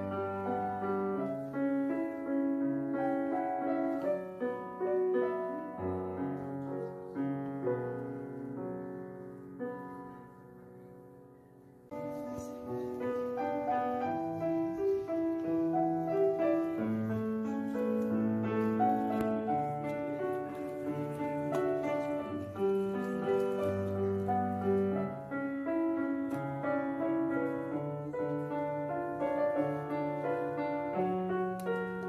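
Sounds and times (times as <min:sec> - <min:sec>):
background piano music: 0:00.0 - 0:32.0.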